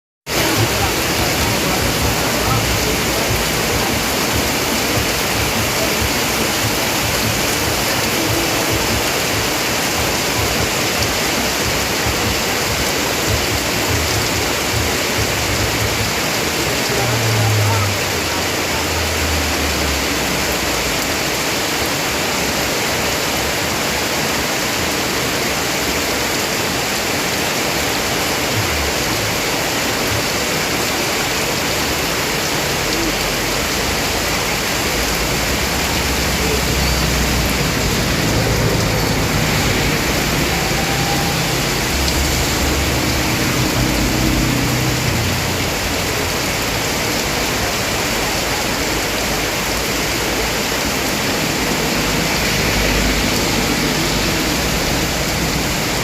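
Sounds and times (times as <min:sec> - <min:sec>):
heavy rain pouring: 0:00.2 - 0:56.0.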